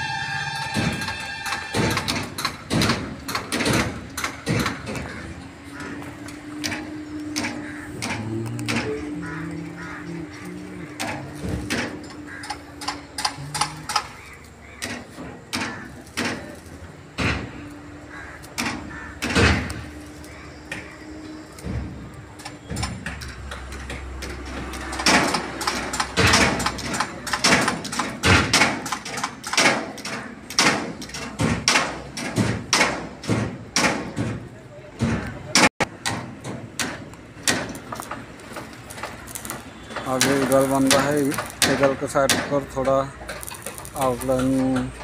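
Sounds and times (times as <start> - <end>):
metallic knocks and bangs: 0.6 - 10.4, 11.0 - 14.2, 14.8 - 17.6, 18.6 - 19.9, 21.6 - 45.0.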